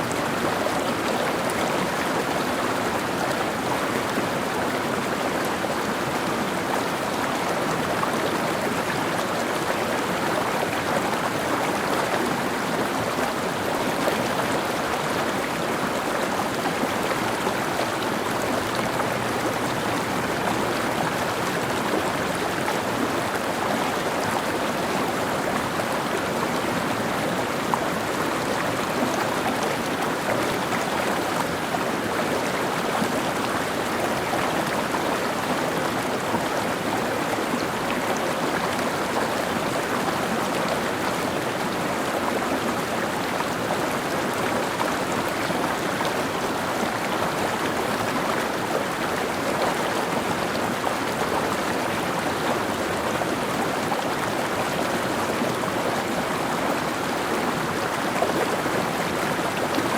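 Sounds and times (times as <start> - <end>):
water babbling over rocks: 0.0 - 59.9.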